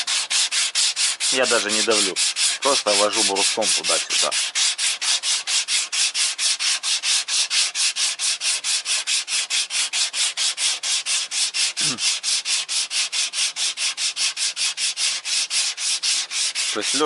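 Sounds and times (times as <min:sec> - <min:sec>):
sandpaper rasping back and forth: 0:00.0 - 0:17.0.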